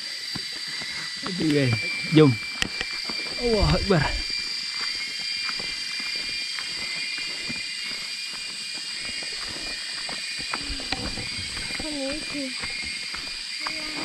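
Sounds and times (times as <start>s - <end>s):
insects chorus: 0.0s - 14.0s
footsteps on trail: 0.2s - 14.0s.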